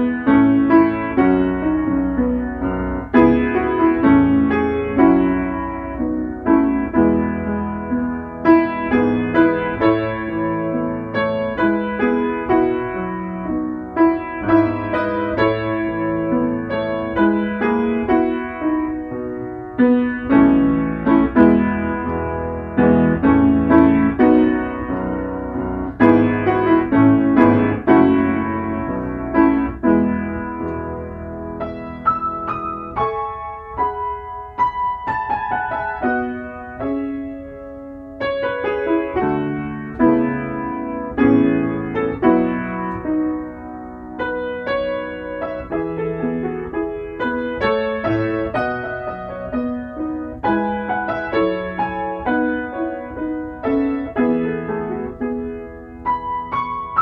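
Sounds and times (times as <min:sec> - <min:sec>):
solo piano playing: 0:00.0 - 0:57.0.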